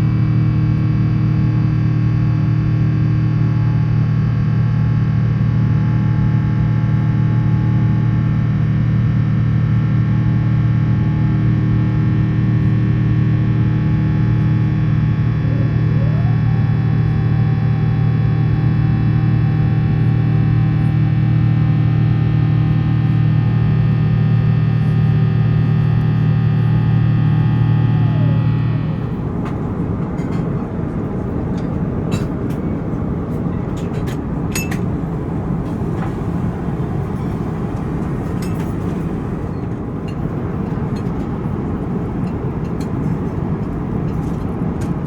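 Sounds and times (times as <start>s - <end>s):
jet engine drone in cabin: 0.0s - 45.0s.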